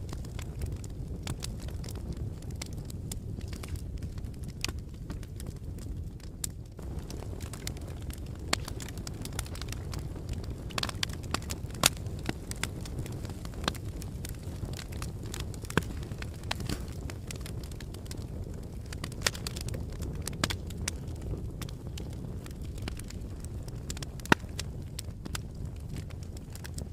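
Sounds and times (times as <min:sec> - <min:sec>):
fire crackling and popping: 0:00.0 - 0:26.9
low rumble of flames: 0:00.0 - 0:26.9.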